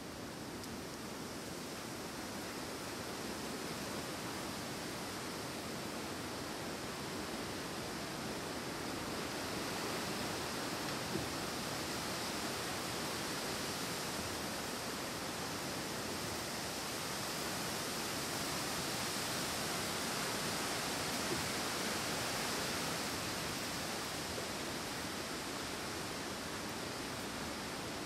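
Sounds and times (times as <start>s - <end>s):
wind through treetops: 0.0s - 28.0s.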